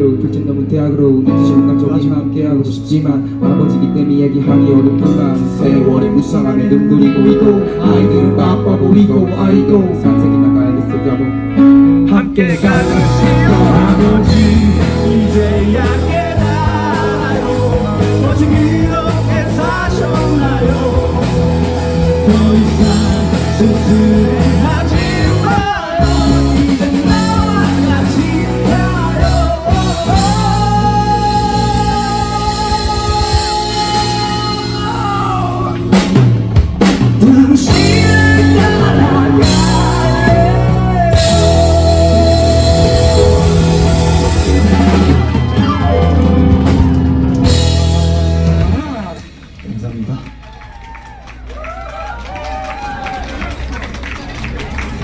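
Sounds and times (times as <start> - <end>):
man singing into microphone: 0.0 - 36.0, 37.1 - 46.2
rock band playing: 0.0 - 55.0.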